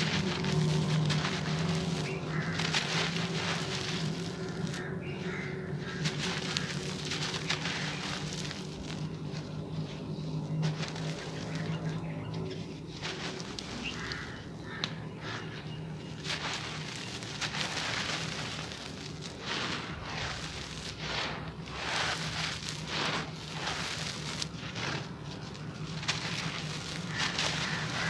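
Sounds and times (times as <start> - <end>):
earth crumbling by hand: 0.0 - 28.0
powder and grains pouring: 0.0 - 28.0
steady low hum: 0.0 - 28.0.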